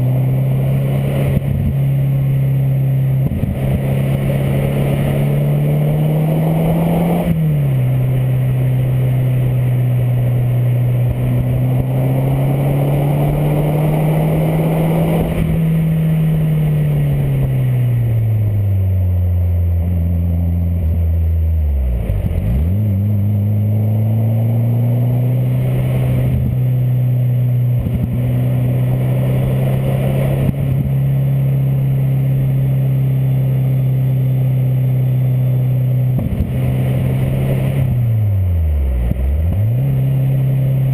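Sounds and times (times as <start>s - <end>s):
car engine running: 0.0s - 40.9s.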